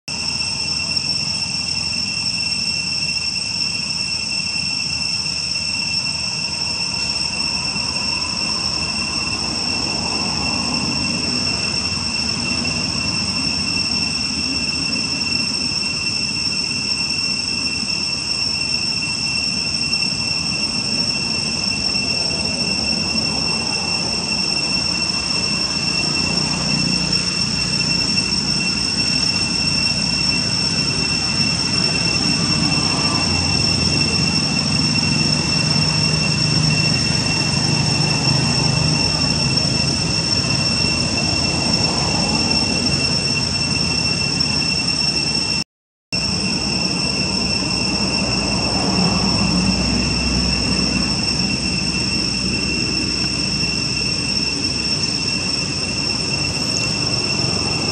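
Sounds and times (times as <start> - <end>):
high-pitched insect drone: 0.1 - 45.6, 46.2 - 57.9.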